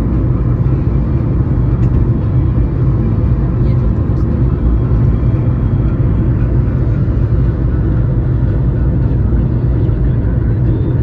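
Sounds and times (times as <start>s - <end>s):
car engine: 0.0s - 11.0s
tyres rumbling on road: 0.0s - 11.0s.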